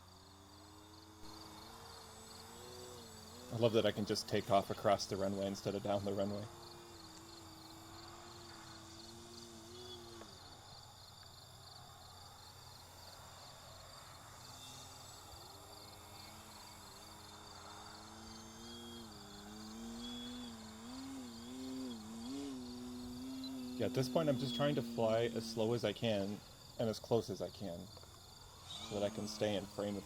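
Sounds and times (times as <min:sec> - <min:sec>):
crickets chirping: 0:00.0 - 0:30.0
model plane motor droning: 0:00.0 - 0:30.0.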